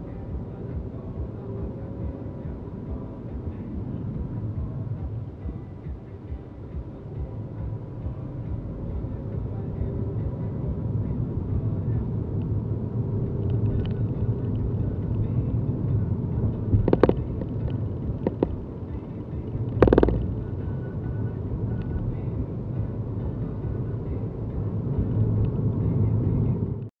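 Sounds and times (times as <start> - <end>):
car road and engine rumble: 0.0 - 26.9.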